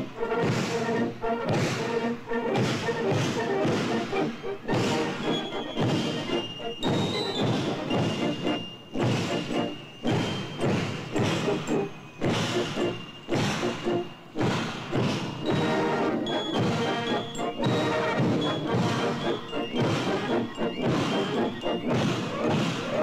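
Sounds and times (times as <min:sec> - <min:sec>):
heavy drum beats: 0:00.0 - 0:23.0
military marching band: 0:00.0 - 0:23.0.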